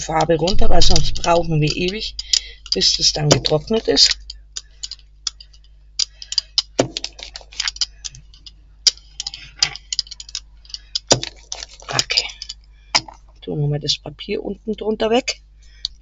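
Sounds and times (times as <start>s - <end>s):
paint roller clicking on plate: 0.0s - 13.1s.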